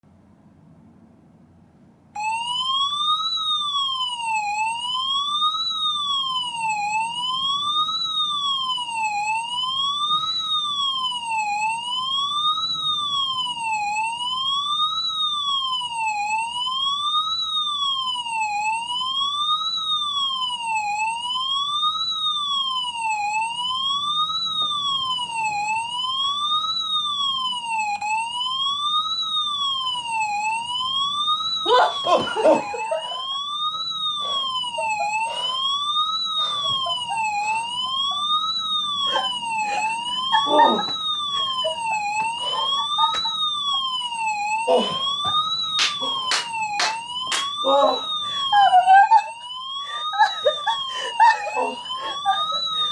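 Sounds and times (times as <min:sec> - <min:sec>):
electronic fire-alarm siren: 0:02.2 - 0:52.9.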